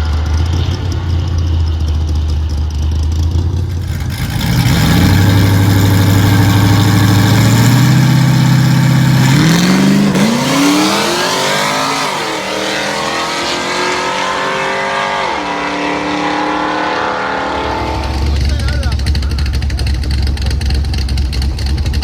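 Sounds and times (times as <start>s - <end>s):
vehicle engine at full throttle: 0.0s - 22.0s.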